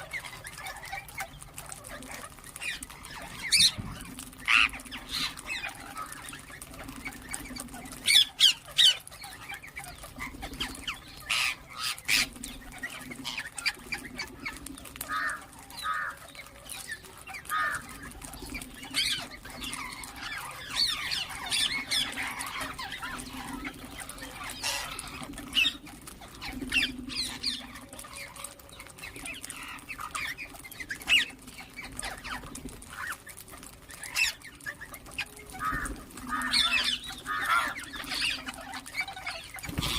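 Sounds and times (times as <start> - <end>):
parakeets squawking and chirping: 0.0 - 39.9.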